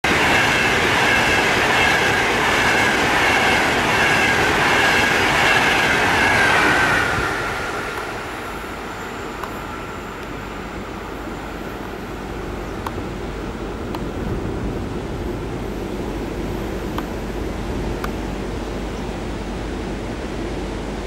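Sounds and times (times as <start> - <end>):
high-speed train passing: 0.0 - 21.0
train high whine: 0.0 - 21.0.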